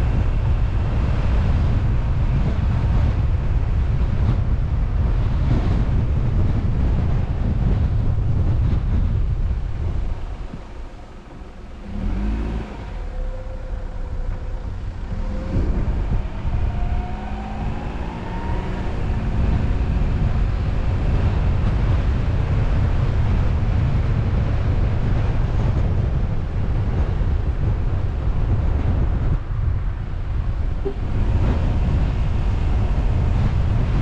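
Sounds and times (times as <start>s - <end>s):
car engine accelerating: 0.0s - 34.0s
low road and wind rumble: 0.0s - 34.0s.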